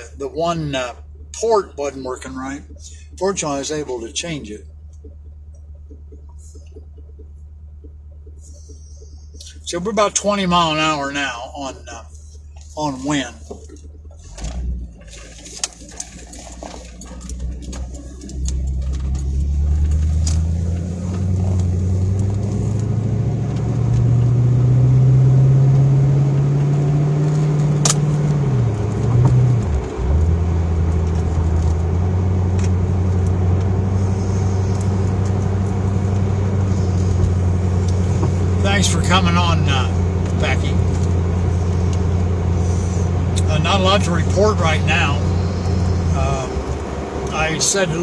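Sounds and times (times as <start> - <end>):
car engine accelerating: 0.0 - 48.0
road noise inside car: 0.0 - 48.0.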